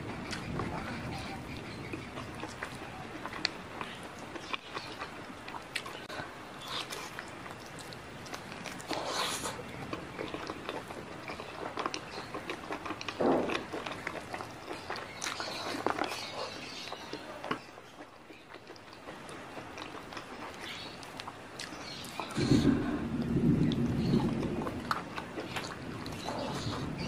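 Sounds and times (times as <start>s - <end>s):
chewing: 0.2s - 27.0s.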